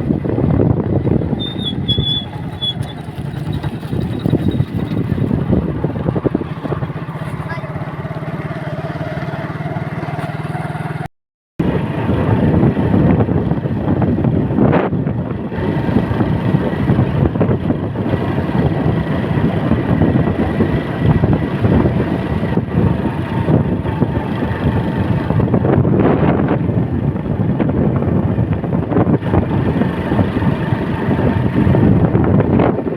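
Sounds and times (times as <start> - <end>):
vehicle engine running: 0.0 - 32.9.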